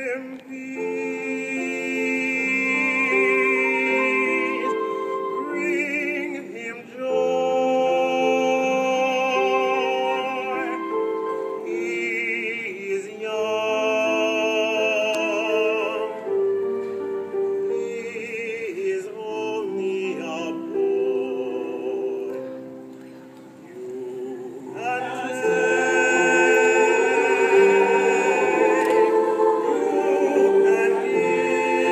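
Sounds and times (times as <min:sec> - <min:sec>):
operatic singing: 0:00.0 - 0:22.7, 0:23.6 - 0:31.9.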